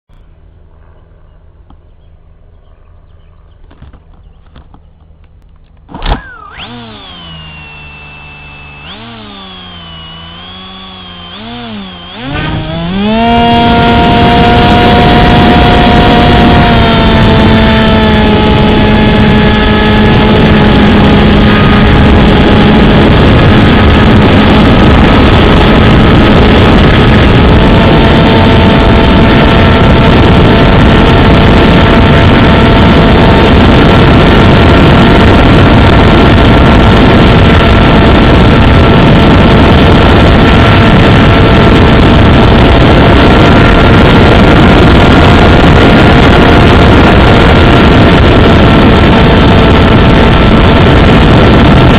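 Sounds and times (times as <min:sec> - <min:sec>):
motor and propeller whine: 0:00.2 - 0:51.9
rushing air noise: 0:05.9 - 0:51.9.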